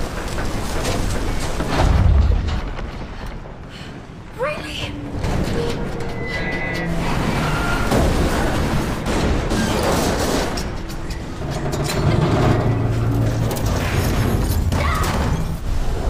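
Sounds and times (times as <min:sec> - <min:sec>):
booming impacts: 0:00.0 - 0:16.0
dramatic music score: 0:01.6 - 0:16.0.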